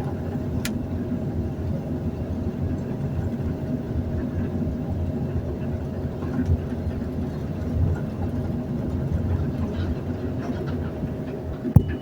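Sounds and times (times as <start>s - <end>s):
elevator car rumbling: 0.0s - 12.0s.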